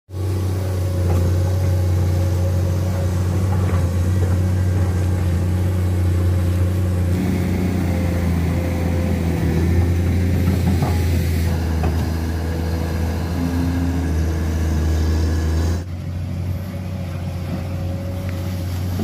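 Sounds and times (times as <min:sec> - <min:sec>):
excavator diesel engine droning: 0:00.1 - 0:19.0.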